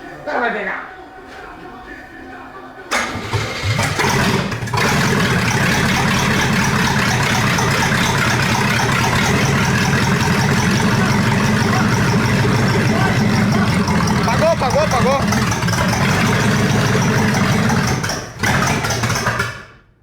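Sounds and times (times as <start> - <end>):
car engine cranking and running: 2.9 - 20.0.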